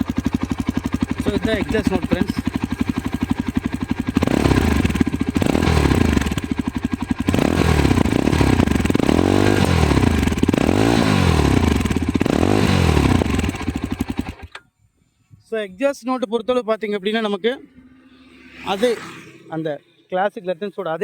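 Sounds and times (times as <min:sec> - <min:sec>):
motorcycle engine revving: 0:00.0 - 0:14.6, 0:17.6 - 0:20.2.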